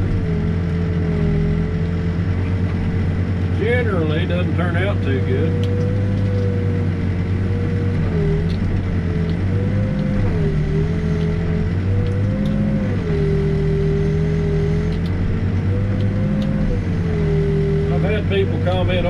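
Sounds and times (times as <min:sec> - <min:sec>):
backhoe diesel engine: 0:00.0 - 0:19.0
hydraulic whine: 0:00.0 - 0:19.0.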